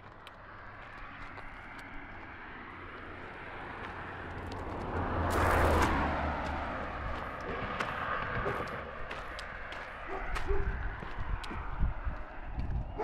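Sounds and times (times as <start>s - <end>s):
tyre noise on road: 0.0s - 13.0s
vehicle engine hum: 0.0s - 13.0s.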